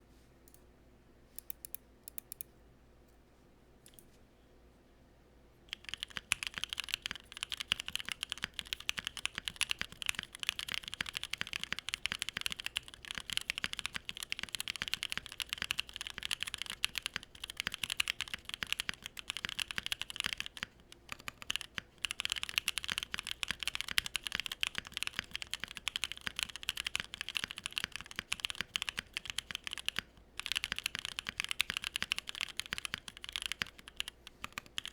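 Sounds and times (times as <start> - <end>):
mechanical keyboard typing: 5.7 - 34.9.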